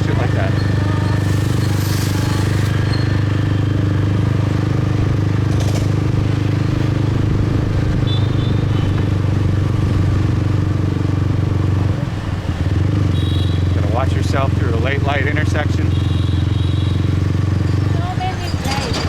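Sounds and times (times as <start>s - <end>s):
motorcycle engine droning: 0.0s - 19.0s.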